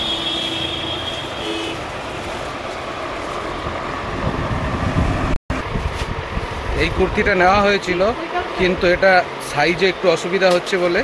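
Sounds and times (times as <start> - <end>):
passing street traffic: 0.0 - 11.0.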